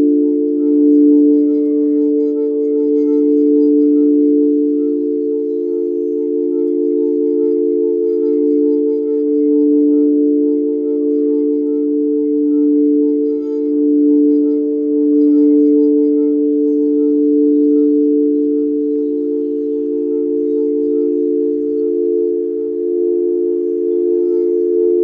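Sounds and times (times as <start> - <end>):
singing bowls ringing: 0.0 - 25.0.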